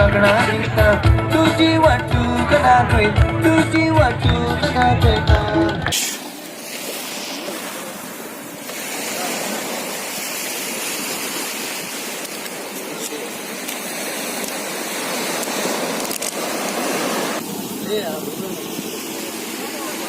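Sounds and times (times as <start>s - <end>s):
sea water rushing: 0.0s - 20.0s.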